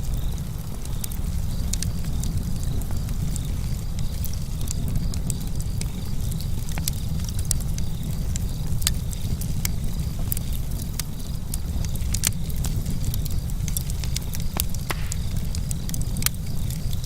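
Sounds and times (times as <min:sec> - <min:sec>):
burning wood crackling and popping: 0:00.0 - 0:17.0
crickets chirping: 0:00.0 - 0:17.0
low rumble of flames: 0:00.0 - 0:17.0.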